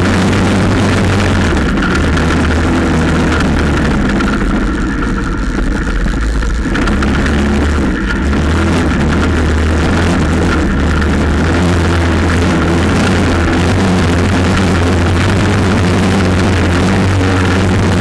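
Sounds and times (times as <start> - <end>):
quad bike engine drone: 0.0 - 18.0.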